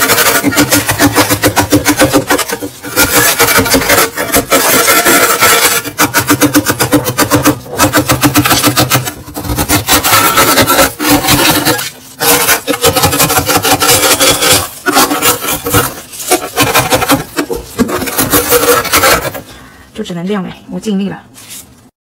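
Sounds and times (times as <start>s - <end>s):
metal scraper rasping frost: 0.0s - 19.5s.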